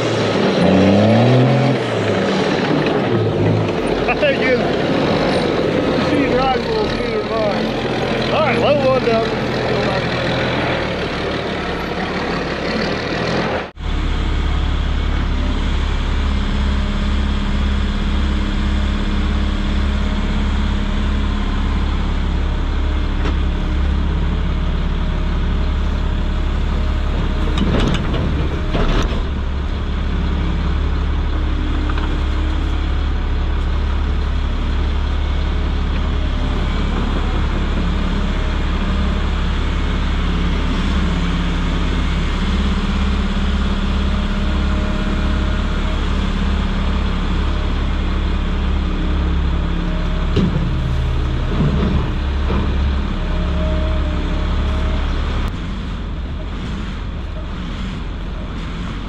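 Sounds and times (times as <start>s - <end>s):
diesel truck idling: 0.0s - 59.0s.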